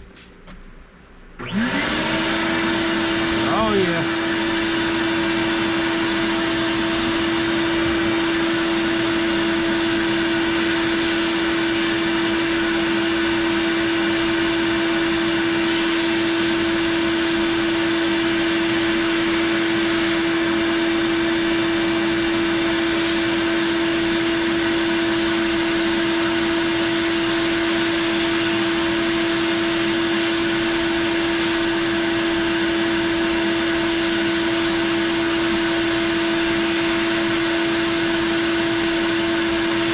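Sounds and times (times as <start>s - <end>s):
shop vacuum running: 1.2s - 39.9s.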